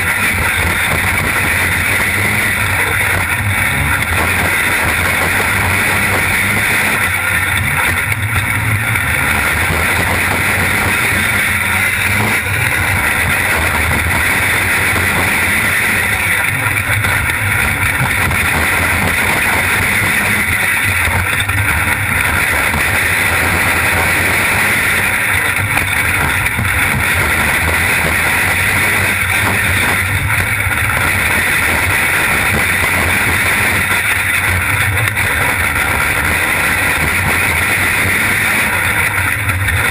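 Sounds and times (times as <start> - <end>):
race car engine racing: 0.0 - 39.9.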